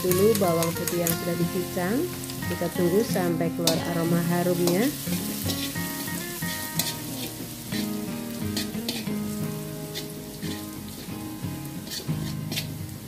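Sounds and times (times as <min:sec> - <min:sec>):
metal spatula scraping a pan: 0:00.0 - 0:12.9
garlic sizzling in hot oil: 0:00.0 - 0:13.0.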